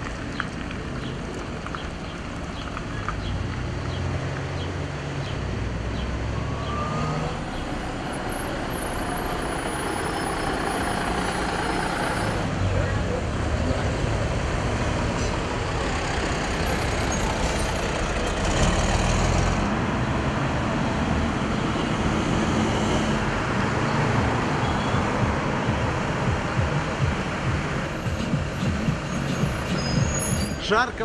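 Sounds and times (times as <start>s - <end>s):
bus engine rumble: 0.0s - 31.0s
road traffic noise: 0.0s - 31.0s.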